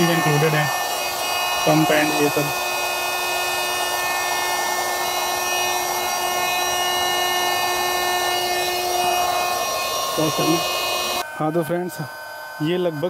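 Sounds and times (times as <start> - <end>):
electric air pump motor hum: 0.0 - 13.0.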